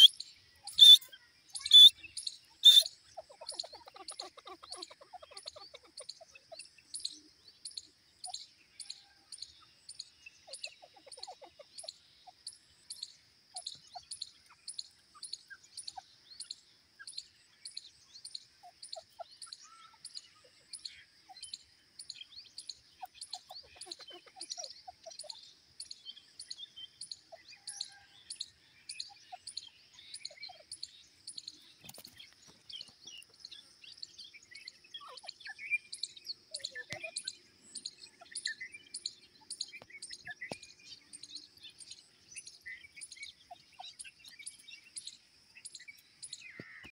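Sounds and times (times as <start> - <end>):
thin high bird chirp: 0.0 - 9.2, 9.9 - 46.9
soft low bird chirps: 0.0 - 46.9.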